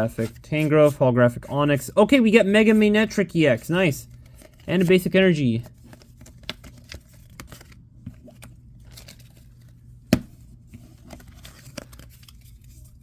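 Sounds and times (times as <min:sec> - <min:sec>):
trading cards clicking and rustling: 0:02.1 - 0:13.0.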